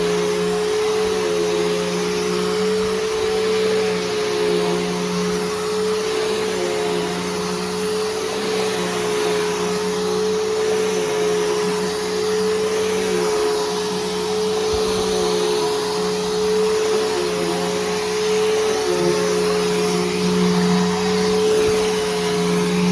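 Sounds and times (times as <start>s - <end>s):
upright vacuum cleaner running: 0.0s - 22.9s.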